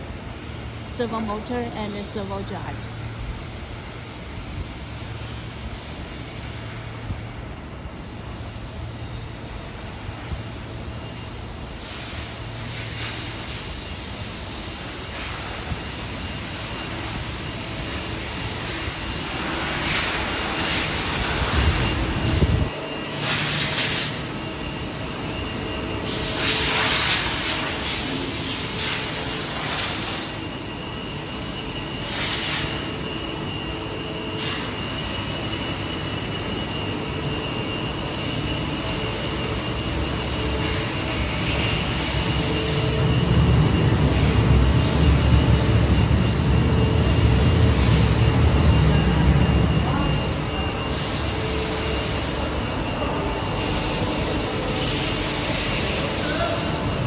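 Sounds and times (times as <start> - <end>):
steady mechanical noise: 0.0 - 57.0.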